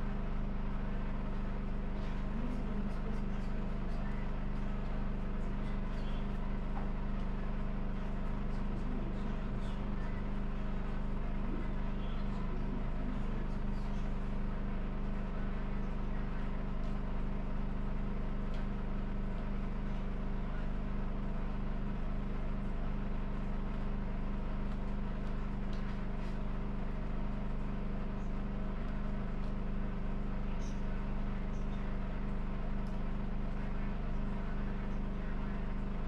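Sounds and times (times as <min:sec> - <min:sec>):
machine droning hum: 0:00.0 - 0:36.0.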